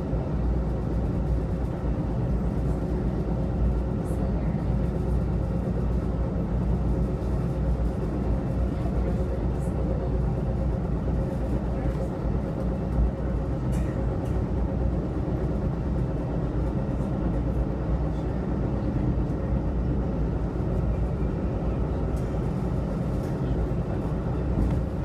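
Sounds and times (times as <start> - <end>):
train low rumble inside car: 0.0 - 25.0.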